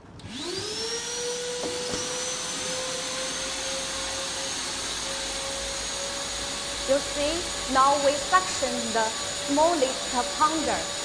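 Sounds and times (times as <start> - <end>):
vacuum cleaner motor whining: 0.2 - 11.0.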